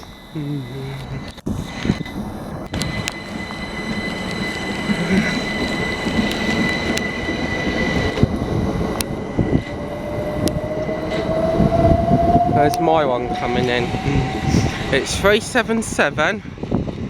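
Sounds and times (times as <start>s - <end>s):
rising tone: 0.0s - 15.4s
electric train whine: 0.0s - 17.0s
train running gear rumble: 0.0s - 17.0s.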